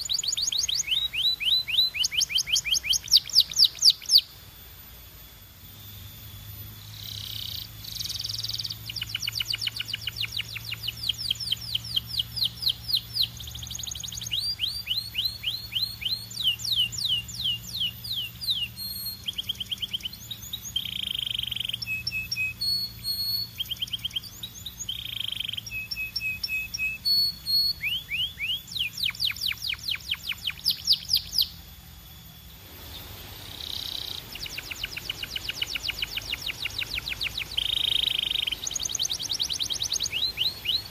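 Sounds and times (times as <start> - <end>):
canary singing trills: 0.0 - 4.4, 5.8 - 40.9
faint steady low hum: 0.0 - 40.9.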